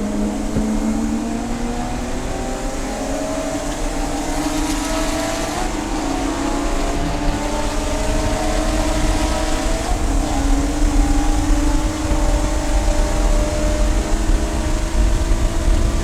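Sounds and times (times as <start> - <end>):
race car engine accelerating: 0.0 - 16.0
wind and road noise: 0.0 - 16.0.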